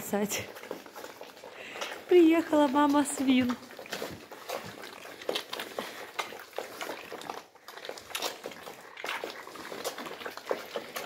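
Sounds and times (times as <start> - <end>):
piglets slurping mash: 0.0 - 11.0.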